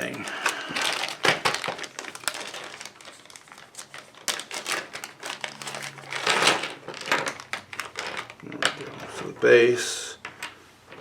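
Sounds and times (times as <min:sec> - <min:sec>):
plastic miniatures clicking and rustling: 0:00.0 - 0:09.4.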